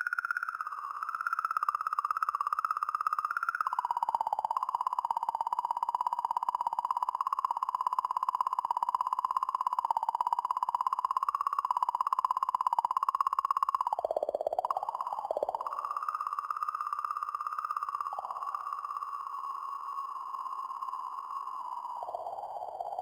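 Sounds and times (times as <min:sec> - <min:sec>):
eerie wavering electronic tone: 0:00.0 - 0:23.0.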